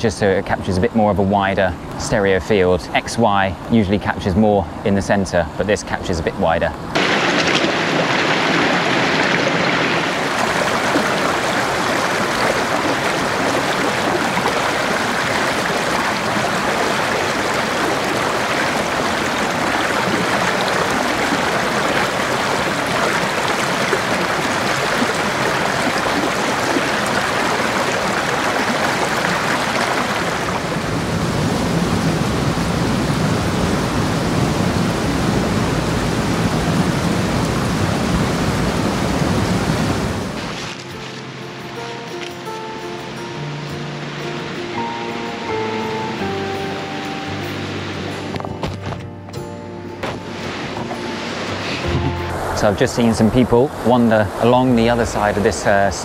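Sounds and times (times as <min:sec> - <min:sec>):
stream rushing over rocks: 0:06.8 - 0:49.0, 0:50.0 - 0:56.0.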